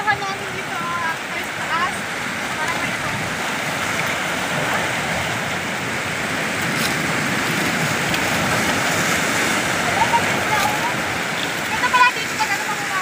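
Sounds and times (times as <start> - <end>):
sea waves on rocky shore: 0.0 - 13.0.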